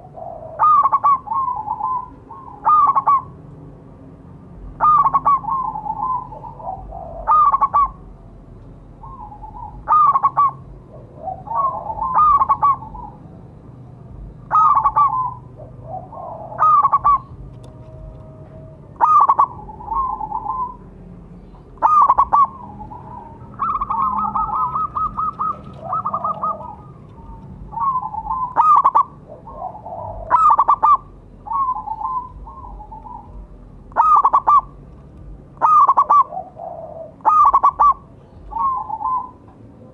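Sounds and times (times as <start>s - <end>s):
dove cooing: 0.0s - 3.4s, 4.8s - 34.8s, 35.5s - 39.9s.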